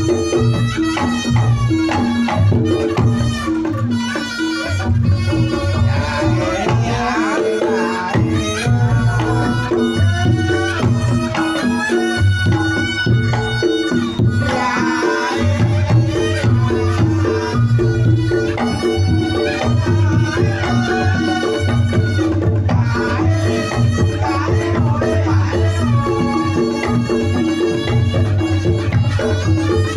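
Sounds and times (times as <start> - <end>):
hand drumming: 0.0 - 29.9.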